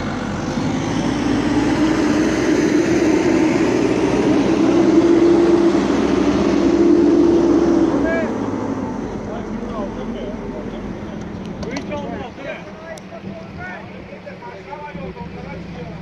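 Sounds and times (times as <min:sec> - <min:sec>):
diesel engine drone: 0:00.0 - 0:16.0.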